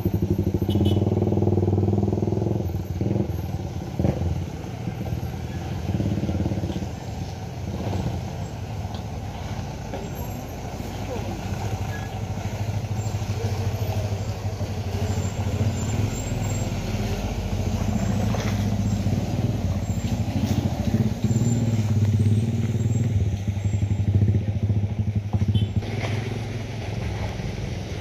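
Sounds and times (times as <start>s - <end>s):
cars passing by: 0.0s - 28.0s
truck engine under load: 0.0s - 28.0s.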